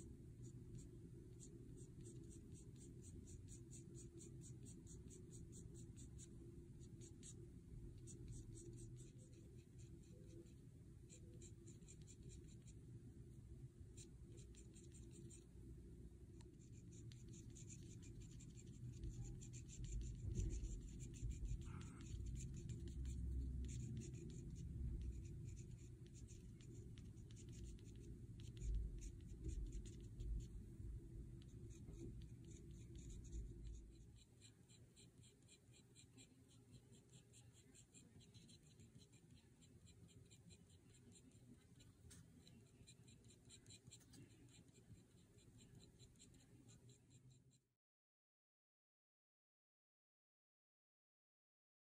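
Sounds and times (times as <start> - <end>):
pen nib scratching on paper: 0.0 - 12.8, 13.9 - 15.5, 16.4 - 47.6.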